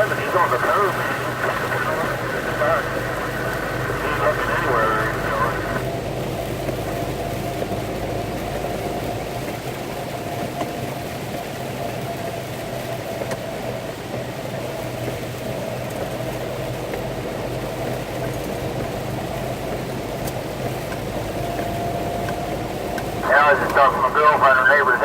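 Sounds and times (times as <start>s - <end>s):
truck engine idling: 0.0s - 10.4s, 14.7s - 25.0s.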